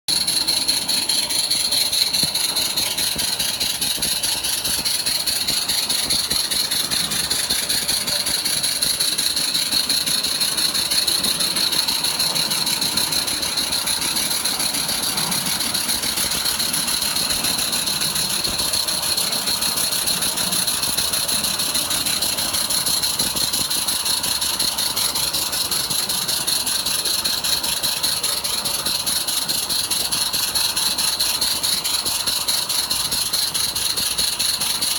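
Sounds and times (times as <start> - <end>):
model steam locomotive running: 0.1 - 34.9.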